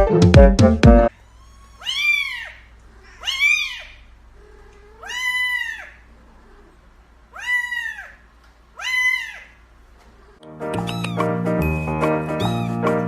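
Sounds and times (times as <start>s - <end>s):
cat meowing: 1.1s - 13.0s.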